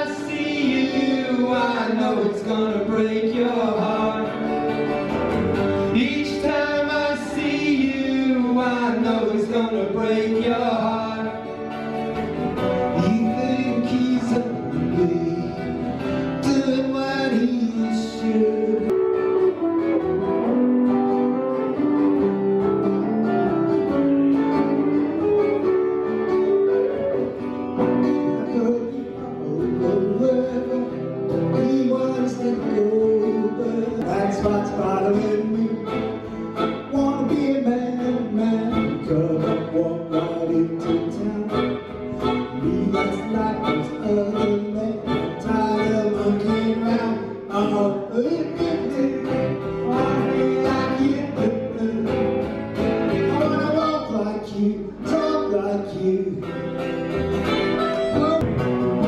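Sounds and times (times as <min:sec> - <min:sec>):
acoustic guitar: 0:00.0 - 0:59.0
electric guitar with bending notes: 0:00.0 - 0:59.0.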